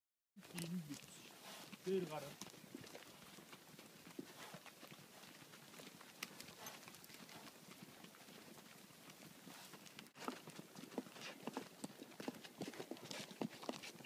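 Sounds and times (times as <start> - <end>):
horse hooves walking on dry ground: 0.4 - 14.0.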